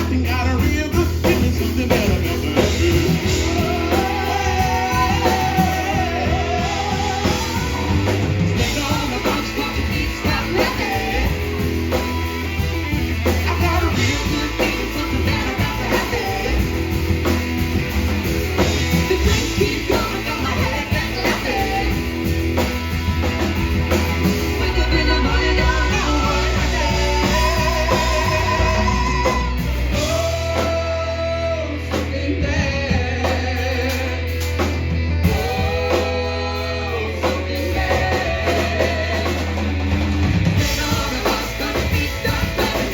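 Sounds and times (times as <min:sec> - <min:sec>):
bass: 0:00.0 - 0:42.9
drum kit: 0:00.0 - 0:42.9
electric guitar: 0:00.0 - 0:42.9
person singing: 0:00.0 - 0:42.9.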